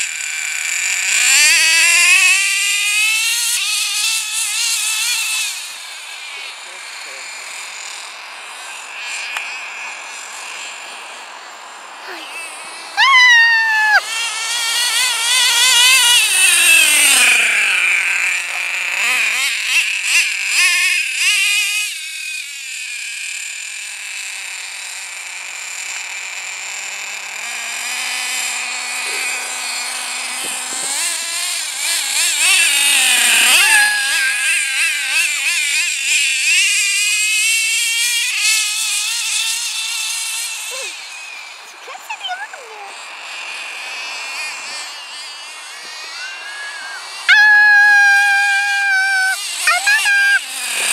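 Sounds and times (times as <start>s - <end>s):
model truck nitro engine revving: 0.0s - 50.9s.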